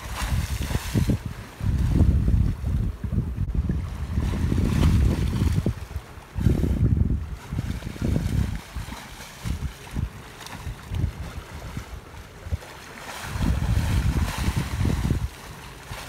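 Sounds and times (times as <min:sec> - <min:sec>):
splashing water: 0:00.0 - 0:02.8, 0:03.6 - 0:16.0
water washing against ship bow: 0:00.0 - 0:16.0
wind gusting on microphone: 0:00.0 - 0:16.0.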